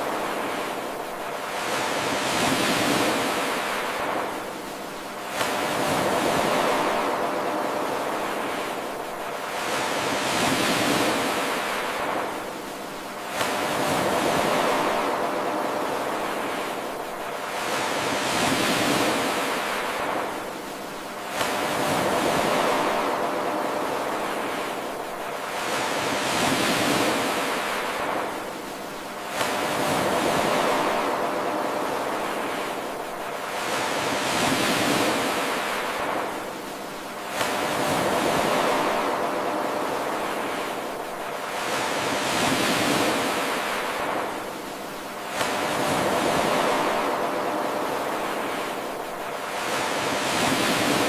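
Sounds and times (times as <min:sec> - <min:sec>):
ocean waves washing in: 0:00.0 - 0:51.0.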